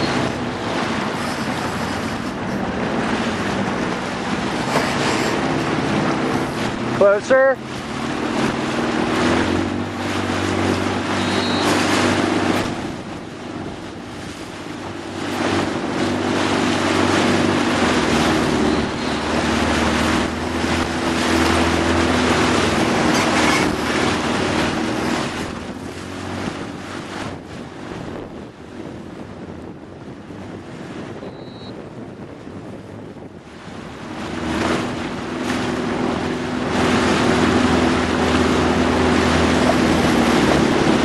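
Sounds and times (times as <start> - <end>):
motorboat engine running: 0.0 - 41.0
water rushing past hull: 0.0 - 41.0
wind gusting on microphone: 0.0 - 41.0.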